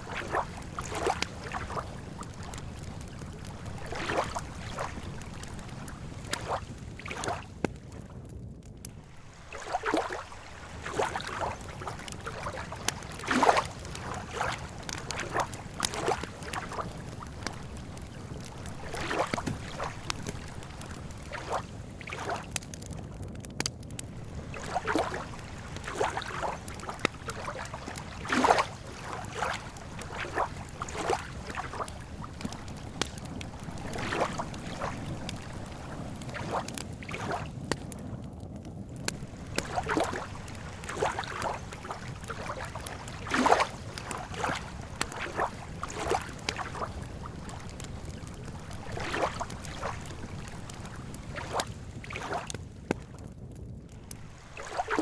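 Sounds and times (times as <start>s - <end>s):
water lapping against shore: 0.0s - 8.2s, 8.8s - 23.2s, 23.8s - 38.2s, 38.9s - 53.2s, 53.9s - 55.0s.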